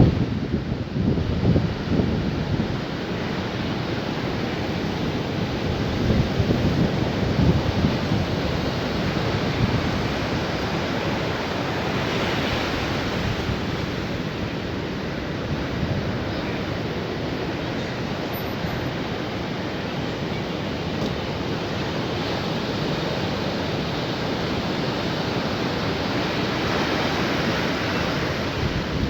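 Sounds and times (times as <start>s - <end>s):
waves breaking on shore: 0.0s - 29.0s
wind buffeting microphone: 0.0s - 29.0s.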